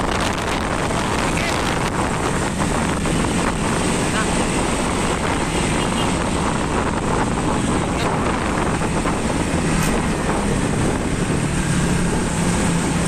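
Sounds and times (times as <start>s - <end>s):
motorcycle and car engines running: 0.0s - 13.0s
tyres on the road: 0.0s - 13.0s
wind rushing over microphone: 0.0s - 13.0s.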